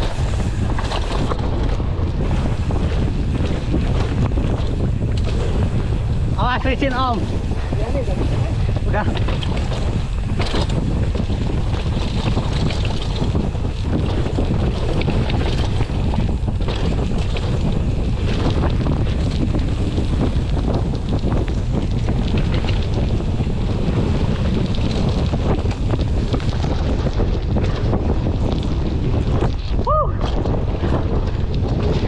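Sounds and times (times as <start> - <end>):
bike clicks and rattles: 0.0 - 32.0
wind buffeting microphone: 0.0 - 32.0.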